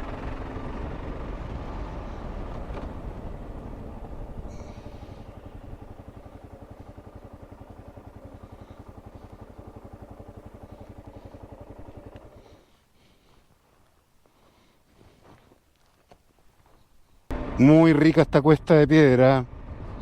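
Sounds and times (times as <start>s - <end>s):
motorcycle engine idling: 0.0s - 14.8s, 15.8s - 17.8s, 18.6s - 20.0s.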